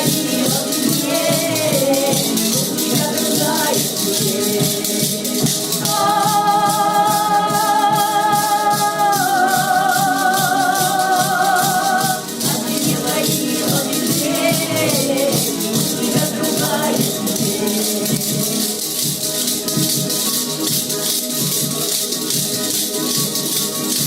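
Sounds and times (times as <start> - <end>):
shaker rhythm: 0.0 - 24.0.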